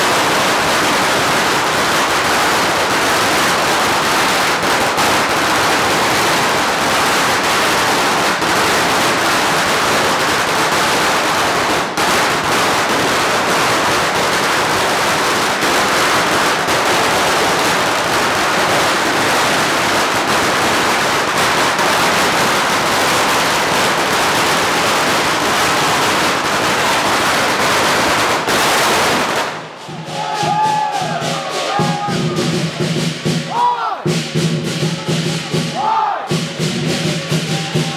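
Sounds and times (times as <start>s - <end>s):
firecrackers crackling: 0.0s - 37.9s.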